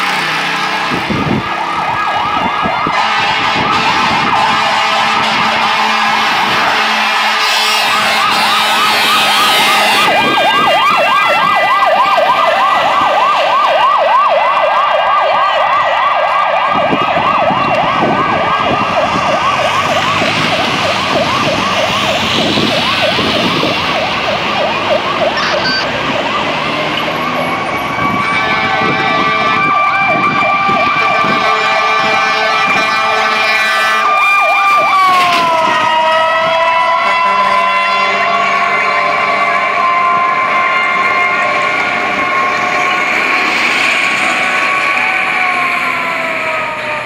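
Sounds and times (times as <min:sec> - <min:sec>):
electronic yelp siren: 0:00.0 - 0:47.0
steady siren tone: 0:00.4 - 0:47.0.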